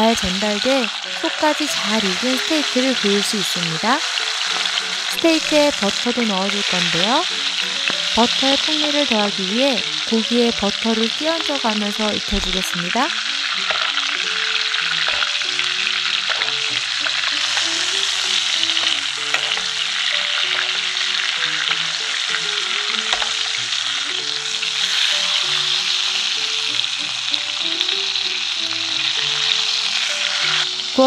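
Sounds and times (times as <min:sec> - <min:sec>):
soft background music: 0:00.0 - 0:31.0
steak sizzling in frying pan: 0:00.0 - 0:31.0.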